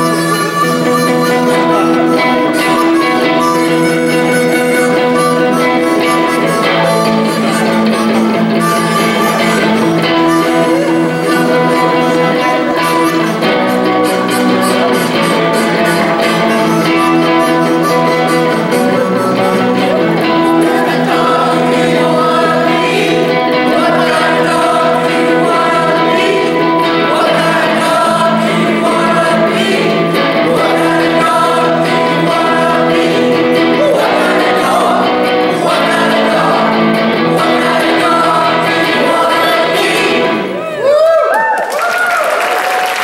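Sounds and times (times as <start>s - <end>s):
guitar: 0.0s - 43.0s
several voices singing together: 1.3s - 40.6s.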